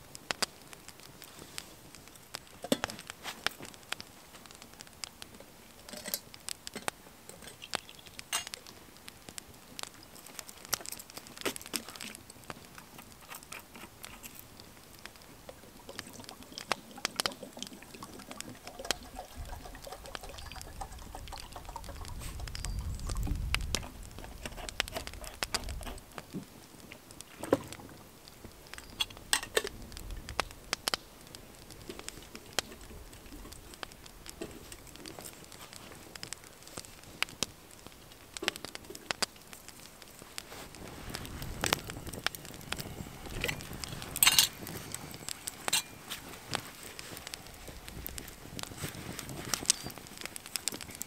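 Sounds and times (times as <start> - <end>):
campfire crackling: 0.0 - 51.0
popcorn popping in a pan: 0.0 - 51.0.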